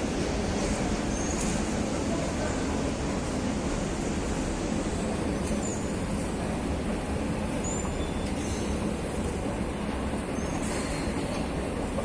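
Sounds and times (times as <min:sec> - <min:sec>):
low rumble of metro station: 0:00.0 - 0:12.0.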